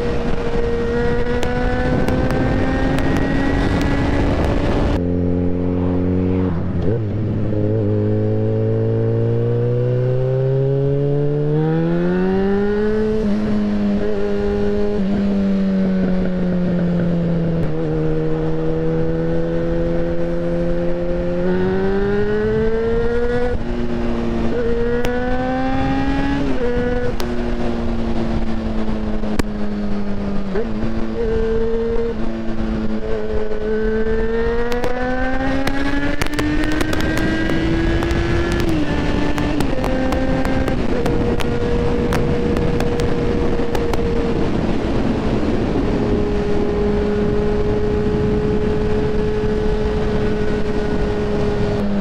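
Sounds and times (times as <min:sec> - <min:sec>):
motorcycle engine revving: 0:00.0 - 0:52.0
wind noise: 0:00.0 - 0:52.0.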